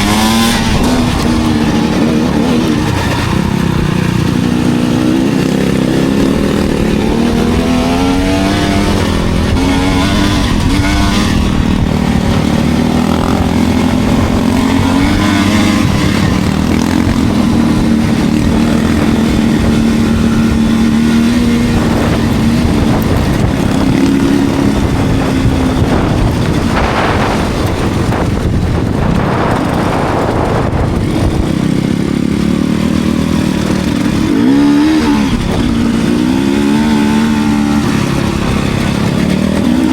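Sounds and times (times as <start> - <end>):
dirt bike engine running: 0.0 - 39.9
rushes of noise: 0.0 - 39.9.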